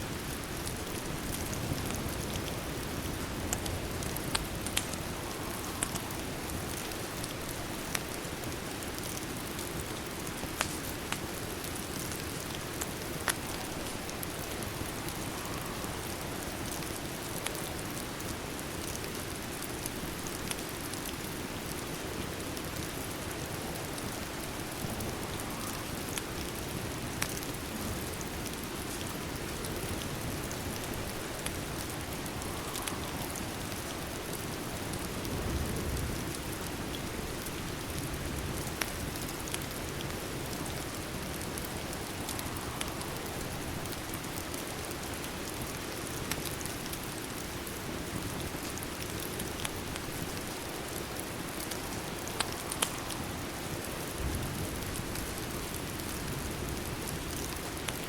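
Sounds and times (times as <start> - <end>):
steady rain: 0.0 - 58.0
wood fire crackles: 0.0 - 58.0.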